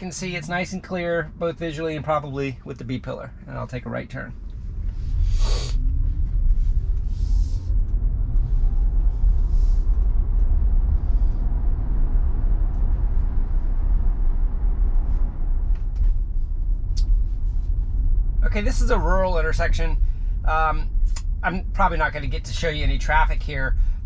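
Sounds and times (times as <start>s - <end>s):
car road and wind noise rumble: 0.0s - 24.0s.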